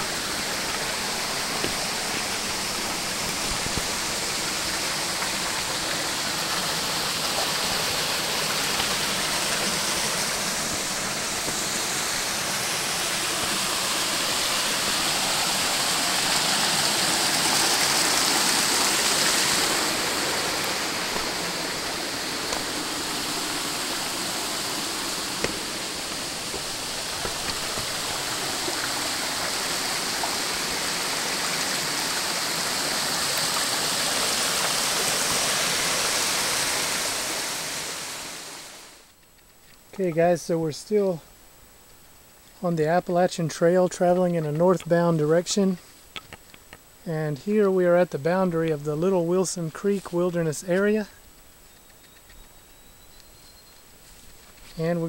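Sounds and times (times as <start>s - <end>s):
stream running over rocks: 0.0s - 51.6s.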